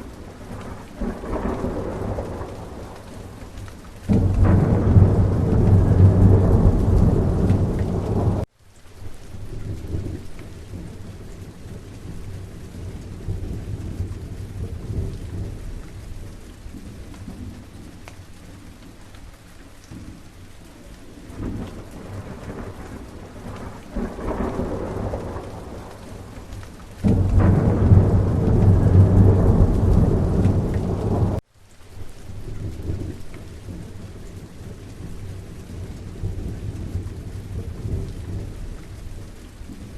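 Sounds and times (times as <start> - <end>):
rolling thunder: 0.0 - 8.5, 9.6 - 17.7, 21.3 - 31.4, 32.4 - 39.9
steady rain falling: 0.0 - 39.9.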